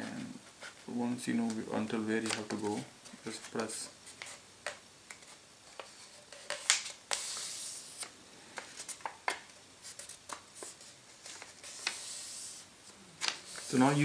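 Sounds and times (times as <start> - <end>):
paper rustle: 0.1 - 4.4, 5.1 - 12.6, 13.2 - 14.0
paper crackling being folded: 0.5 - 4.4, 5.1 - 12.6, 13.2 - 14.0.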